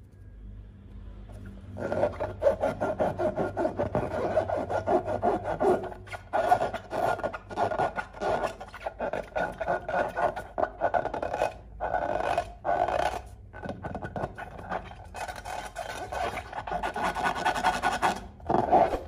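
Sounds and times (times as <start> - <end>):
hands rubbing a balloon: 1.8 - 19.0.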